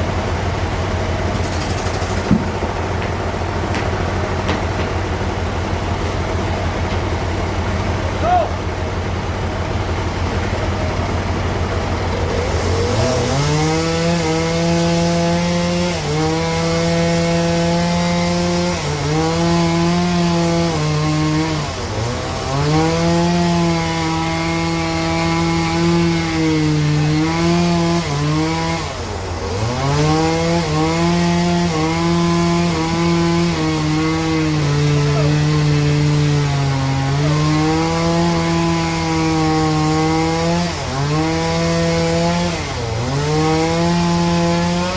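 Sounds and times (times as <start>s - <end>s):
band saw whining: 0.0s - 44.9s
sawmill drive hum: 0.0s - 44.9s.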